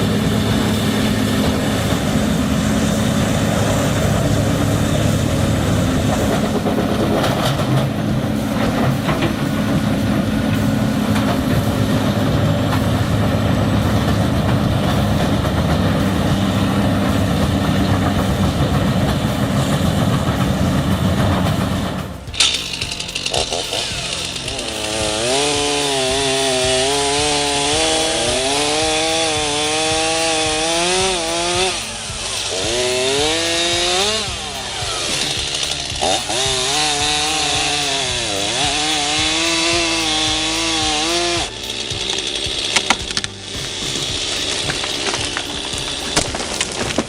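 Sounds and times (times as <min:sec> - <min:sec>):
wood grinder running under load: 0:00.0 - 0:47.0.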